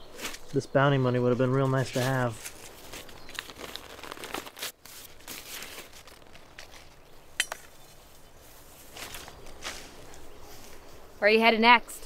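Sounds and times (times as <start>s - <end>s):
faint rustling and crinkling: 0.0s - 11.5s.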